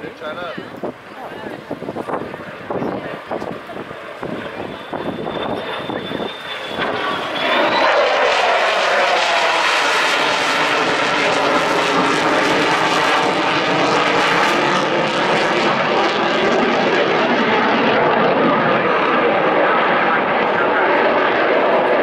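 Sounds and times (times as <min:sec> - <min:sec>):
fighter jet engine roar: 0:00.0 - 0:22.0.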